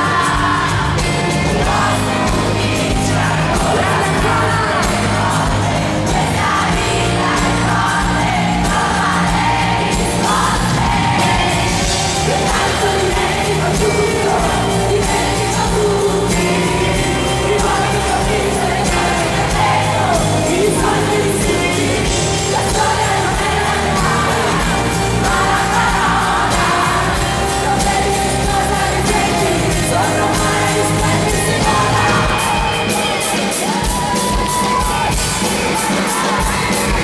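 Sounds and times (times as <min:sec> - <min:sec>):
live pop-rock band: 0:00.0 - 0:37.0.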